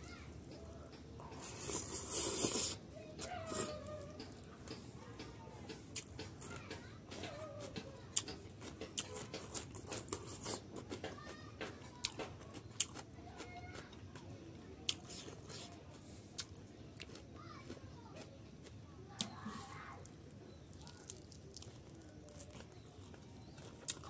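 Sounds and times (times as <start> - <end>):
man chewing crunchy beans: 0.3 - 4.9, 5.7 - 11.2, 12.0 - 24.0.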